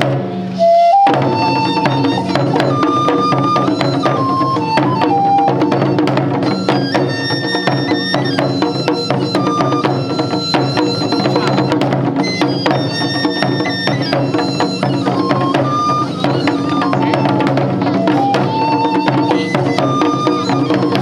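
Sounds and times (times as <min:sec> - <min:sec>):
taiko drum ensemble: 0:00.0 - 0:21.0
high melody of held notes: 0:00.5 - 0:21.0.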